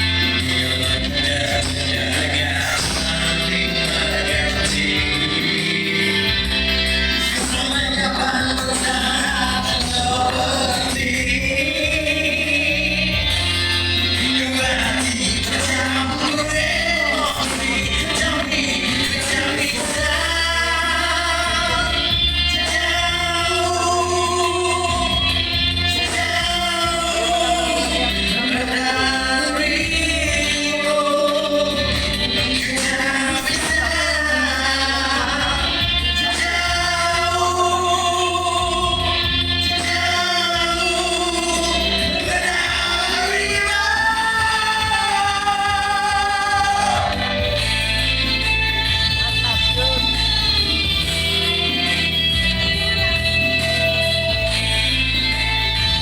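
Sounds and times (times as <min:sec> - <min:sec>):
instrumental backing with bass: 0:00.0 - 0:56.0
voices singing long notes: 0:00.0 - 0:56.0.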